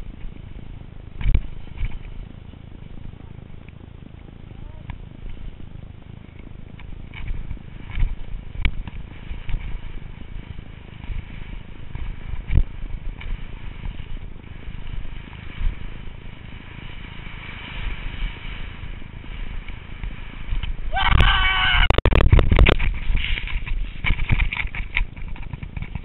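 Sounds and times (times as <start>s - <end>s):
skis sliding over snow: 0.0s - 26.0s
wind buffeting: 0.0s - 26.0s.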